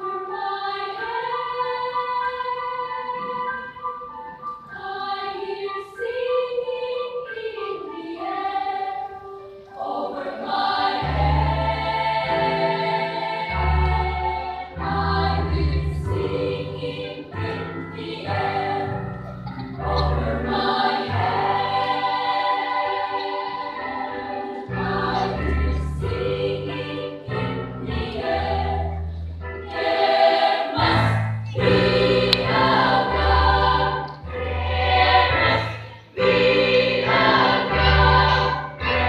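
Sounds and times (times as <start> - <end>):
children's choir singing: 0.0 - 39.0.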